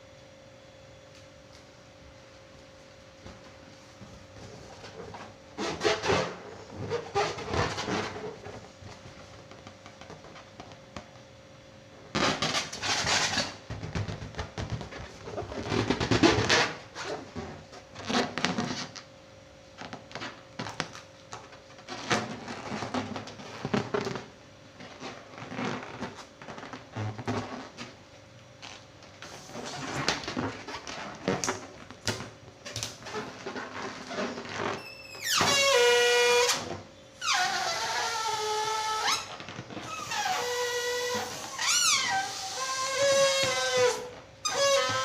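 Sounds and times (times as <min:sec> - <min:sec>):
faint hum: 0:00.0 - 0:45.0
rubber balloons squeaking: 0:04.7 - 0:10.6, 0:12.1 - 0:19.1, 0:19.8 - 0:28.0, 0:28.6 - 0:45.0.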